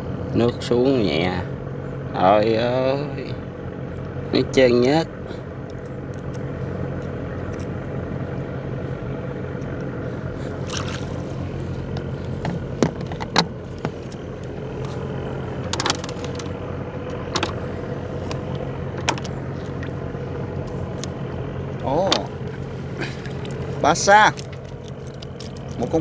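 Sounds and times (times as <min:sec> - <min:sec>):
motorboat engine idling: 0:00.0 - 0:26.0.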